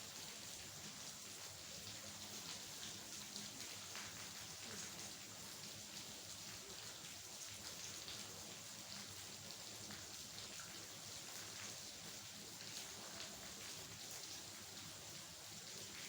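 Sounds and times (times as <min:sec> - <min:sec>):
rain pattering on a surface: 0:00.0 - 0:16.0.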